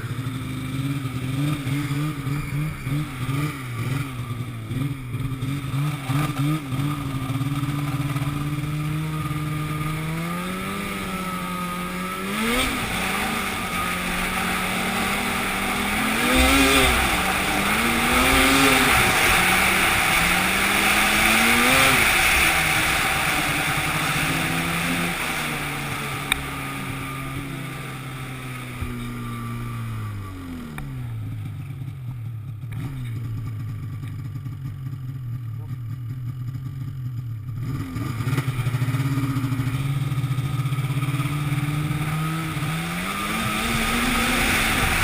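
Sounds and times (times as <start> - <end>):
vehicle engine revving: 0.0 - 34.6, 37.5 - 45.0.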